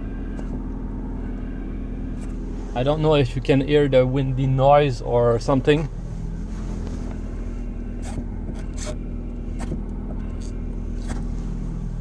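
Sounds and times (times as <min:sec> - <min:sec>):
car clutch whirring: 0:00.0 - 0:12.0.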